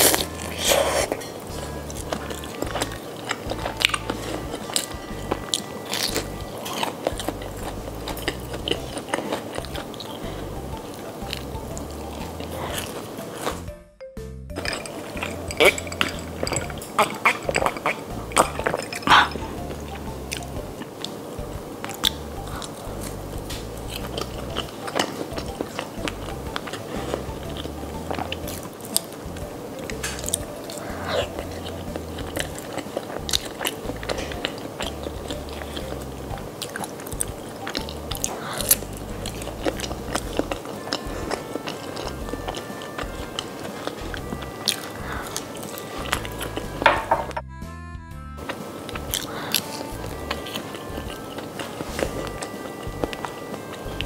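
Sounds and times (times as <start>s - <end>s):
chewing crispy food: 0.0s - 13.7s, 14.6s - 47.3s, 48.4s - 54.0s
soft background music: 0.0s - 54.0s.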